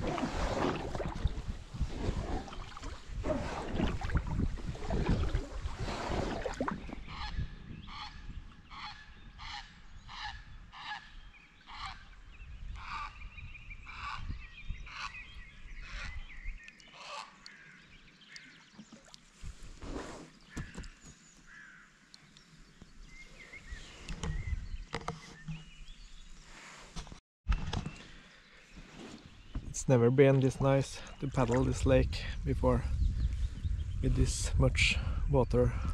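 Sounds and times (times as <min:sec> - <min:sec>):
water and wind from paddling: 0:00.0 - 0:35.9.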